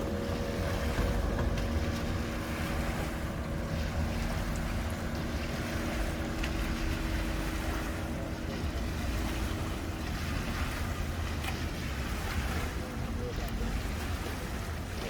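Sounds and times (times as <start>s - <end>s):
idling engine hum: 0.0s - 15.0s
wind rumbling on microphone: 0.0s - 15.0s.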